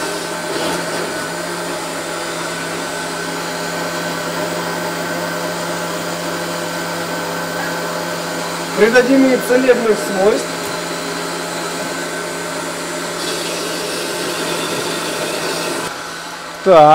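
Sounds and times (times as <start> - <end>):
blender motor running: 0.0 - 16.9.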